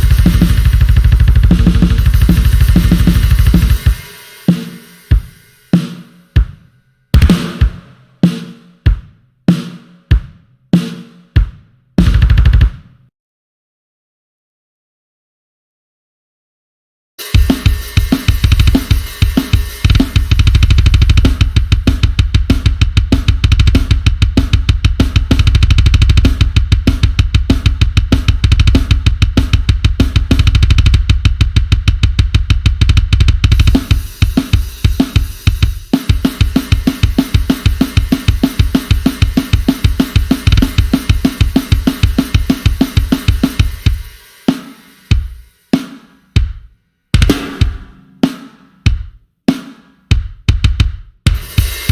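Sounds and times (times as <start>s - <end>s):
acoustic drum kit groove: 0.0s - 13.0s, 17.2s - 51.9s
heavy bass drum: 0.0s - 13.0s, 17.2s - 51.9s.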